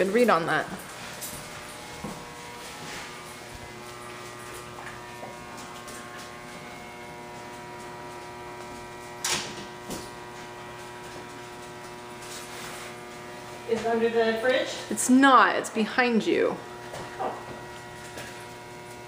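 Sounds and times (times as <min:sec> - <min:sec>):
electrical hum of appliances: 0:00.0 - 0:19.0.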